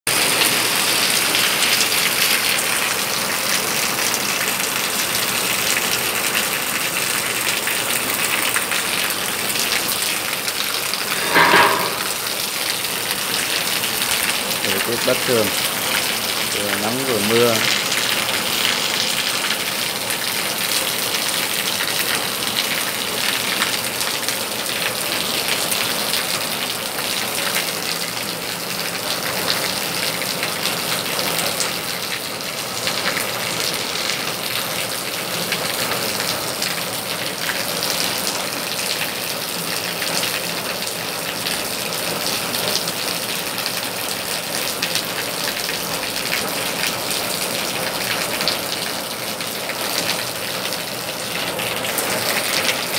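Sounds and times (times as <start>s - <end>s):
steady rain hiss: 0.2s - 52.9s.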